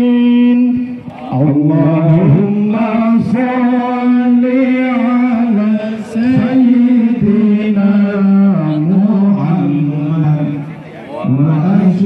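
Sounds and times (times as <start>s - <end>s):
man chanting over a microphone: 0.0s - 12.0s.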